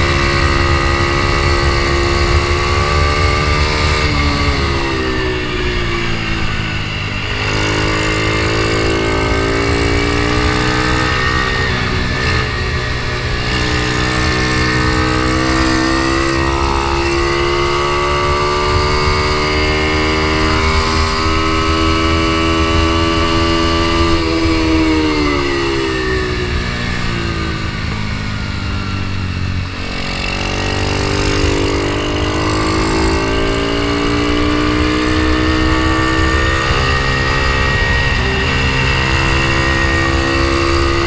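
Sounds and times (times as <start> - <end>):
motorcycle engine at full throttle: 0.0 - 41.0.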